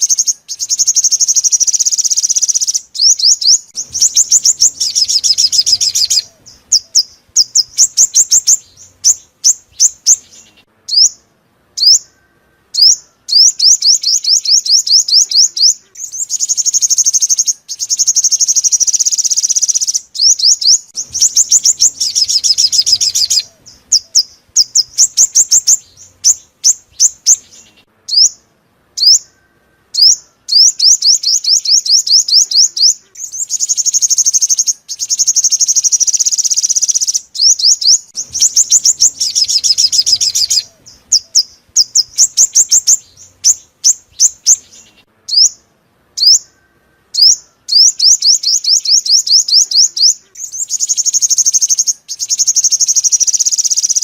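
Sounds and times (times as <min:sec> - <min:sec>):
sunbird trills and chip notes: 0:00.0 - 0:54.0.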